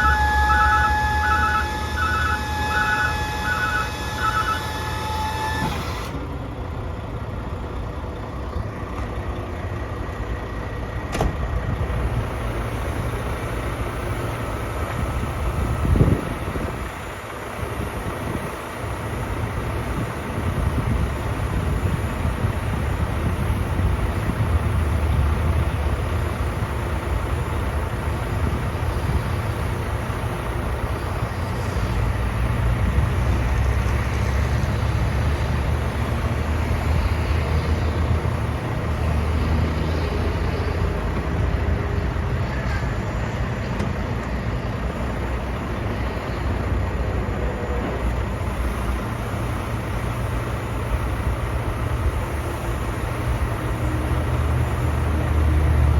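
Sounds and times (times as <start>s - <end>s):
diesel truck engine rumbling: 0.0s - 55.9s.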